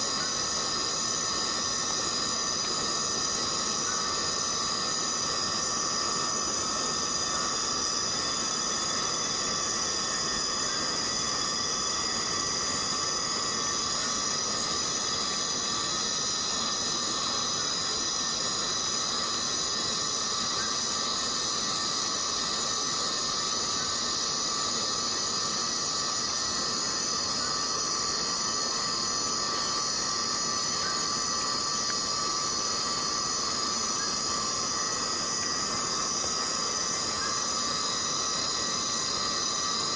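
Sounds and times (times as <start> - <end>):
insects buzzing high tones: 0.0 - 39.9.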